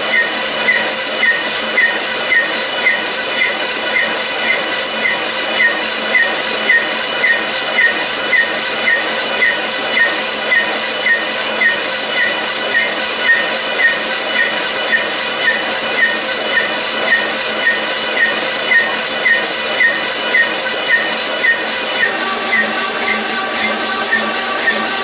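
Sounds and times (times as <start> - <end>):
workshop machine hissing: 0.0 - 25.0.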